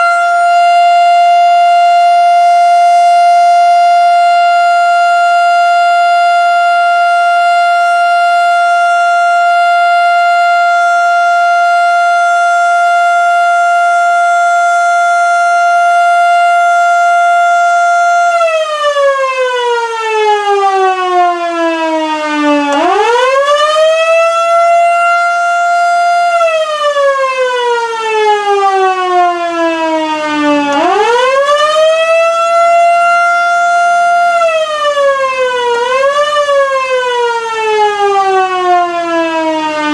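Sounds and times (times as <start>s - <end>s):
civil defense siren: 0.0s - 39.9s.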